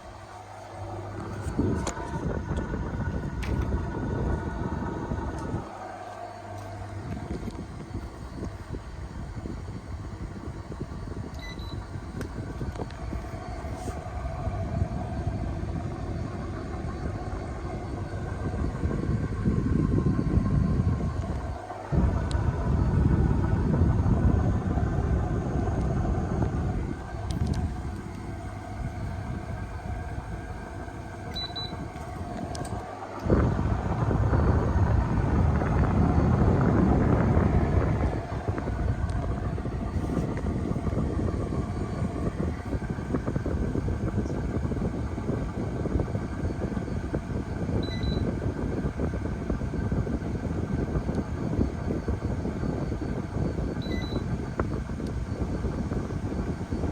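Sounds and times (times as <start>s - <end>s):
air conditioner humming: 0.0s - 56.9s
heavy low rumble: 0.0s - 56.9s.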